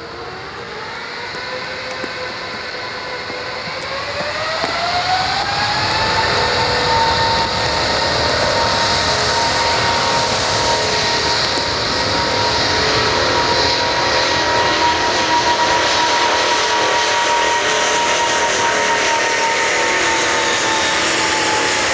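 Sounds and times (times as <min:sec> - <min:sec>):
jet engines spooling up: 0:00.0 - 0:21.9
loud rushing noise: 0:00.0 - 0:21.9.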